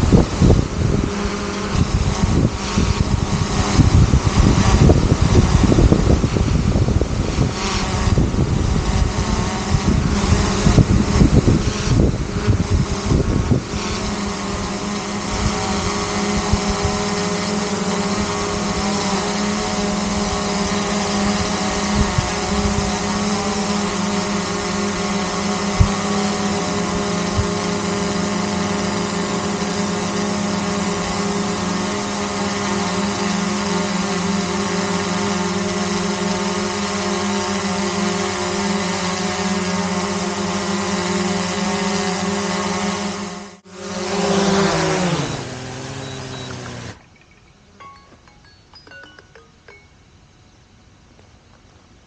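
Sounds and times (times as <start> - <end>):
drone propellers humming: 0.0 - 51.1.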